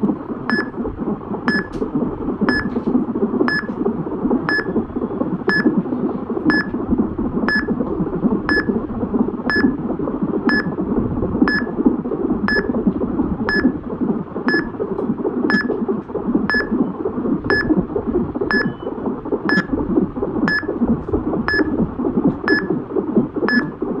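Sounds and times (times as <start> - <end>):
fetal heartbeat whoosh: 0.0 - 24.0.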